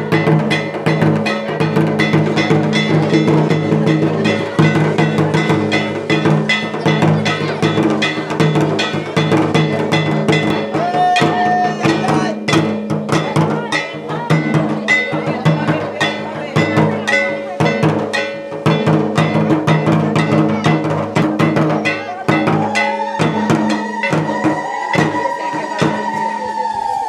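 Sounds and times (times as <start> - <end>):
drums and metallic percussion music: 0.0 - 27.0
held high note: 0.0 - 27.0.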